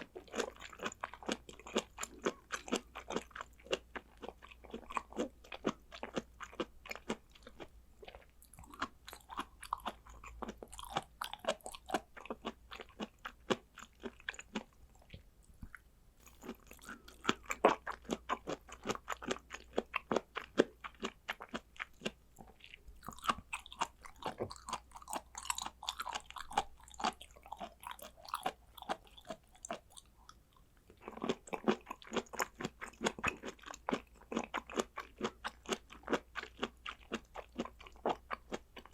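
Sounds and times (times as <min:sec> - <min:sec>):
wet chewing clicks: 0:00.0 - 0:38.9.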